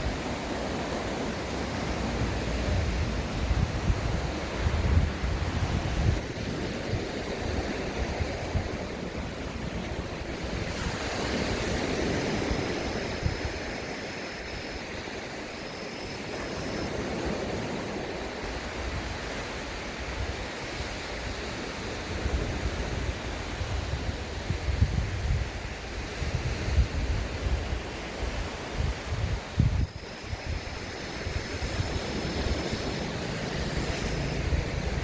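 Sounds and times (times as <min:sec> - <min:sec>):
wind buffeting microphone: 0:00.0 - 0:19.5, 0:20.1 - 0:35.0
sea waves washing on beach: 0:00.0 - 0:35.0.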